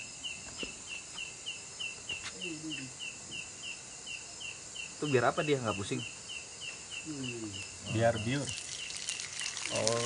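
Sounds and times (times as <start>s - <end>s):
faint steady hiss: 0.0s - 10.0s
insect chirping: 0.0s - 10.0s.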